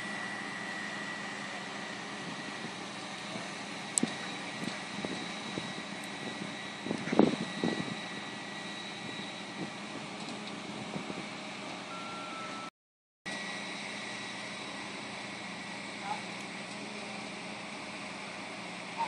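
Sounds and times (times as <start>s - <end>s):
fire truck engine running: 0.0s - 12.7s, 13.3s - 19.0s.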